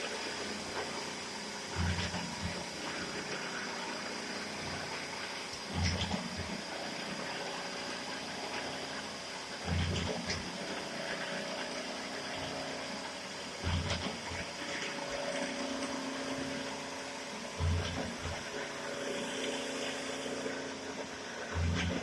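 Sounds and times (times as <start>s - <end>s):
coolant flowing: 0.0s - 22.0s
milling machine high whine: 0.0s - 22.0s.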